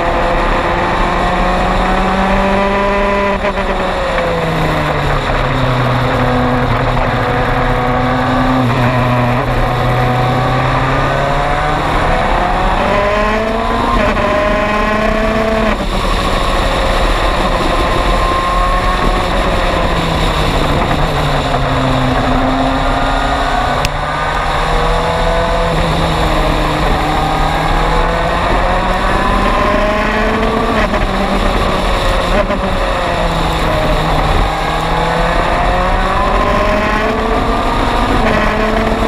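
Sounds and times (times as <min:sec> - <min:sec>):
race car engine revving: 0:00.0 - 0:39.0
wind rush: 0:00.0 - 0:39.0.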